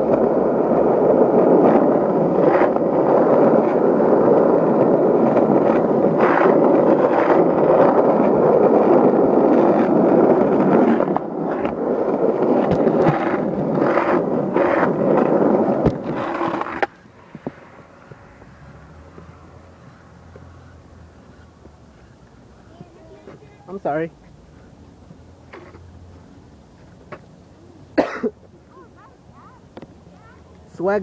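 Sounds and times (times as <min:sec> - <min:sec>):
wheels rolling over rough pavement: 0:00.0 - 0:31.0.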